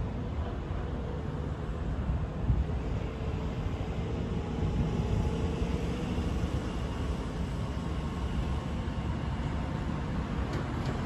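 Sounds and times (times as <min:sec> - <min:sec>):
electric locomotive rumble: 0:00.0 - 0:11.0.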